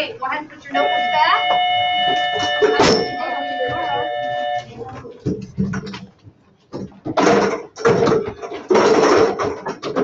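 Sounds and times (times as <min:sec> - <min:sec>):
metal chairs scraping and clattering: 0:00.9 - 0:10.0.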